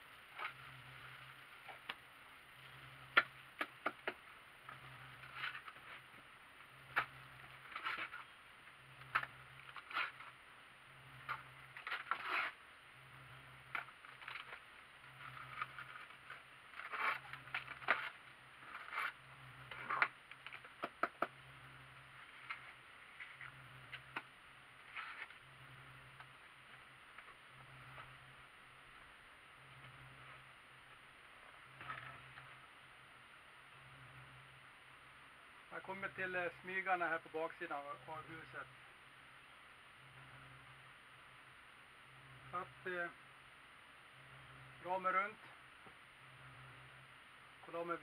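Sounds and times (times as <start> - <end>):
faint pulsing low hum: 0.0 - 48.0.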